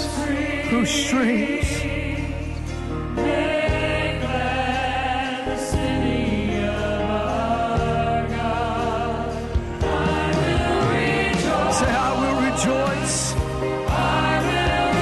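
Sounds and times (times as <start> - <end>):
group of voices singing gospel: 0.0 - 15.0
instrumental accompaniment: 0.0 - 15.0.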